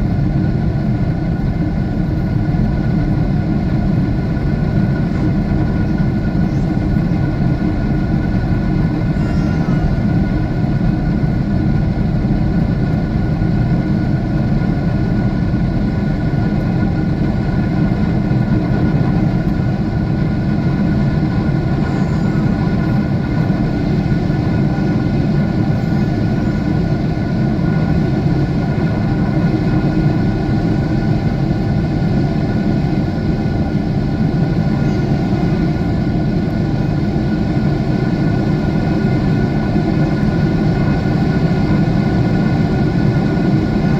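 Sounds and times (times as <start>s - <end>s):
jet engine and airflow rumble: 0.0s - 43.9s.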